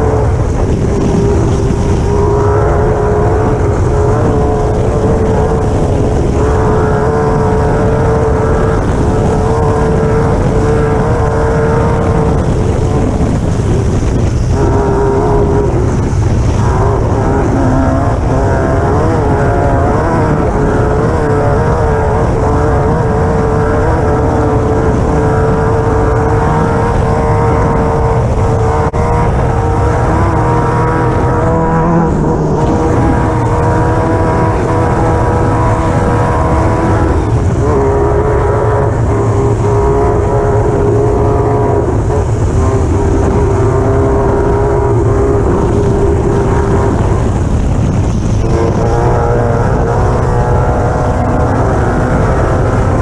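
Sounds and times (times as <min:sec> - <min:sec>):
buggy engine running at high revs: 0:00.0 - 0:53.0
dense low rumble: 0:00.0 - 0:53.0.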